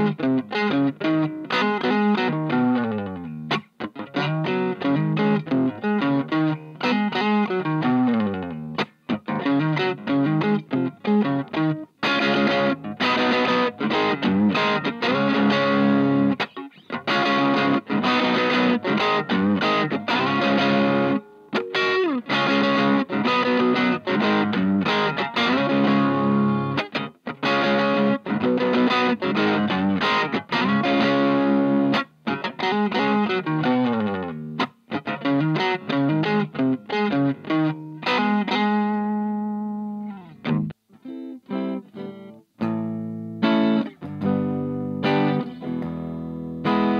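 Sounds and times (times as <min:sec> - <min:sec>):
overdriven electric guitar: 0:00.0 - 0:46.9.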